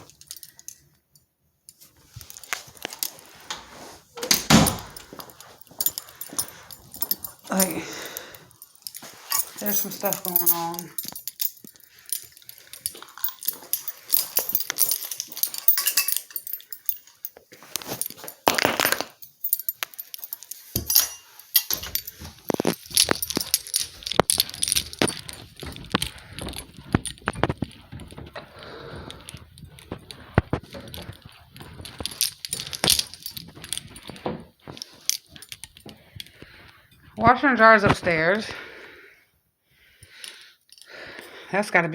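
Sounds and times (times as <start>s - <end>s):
handling clicks and rustles: 0.0s - 38.6s
light jingling: 1.7s - 38.5s.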